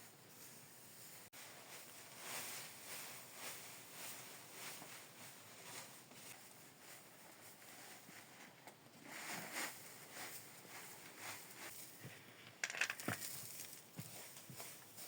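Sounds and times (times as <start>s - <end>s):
faint rustling and handling: 0.0s - 15.0s.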